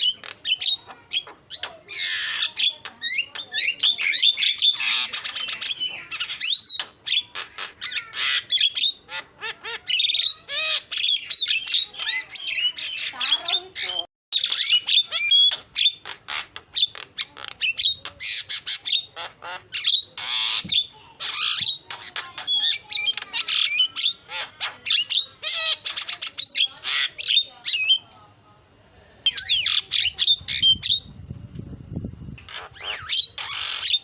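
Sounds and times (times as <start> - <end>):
myna singing chattering squawks: 0.0 - 28.2, 29.3 - 34.0.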